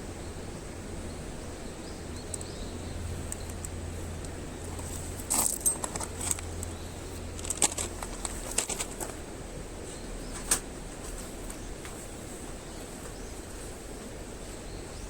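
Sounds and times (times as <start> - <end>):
campfire kindling crackling: 0.8 - 14.6.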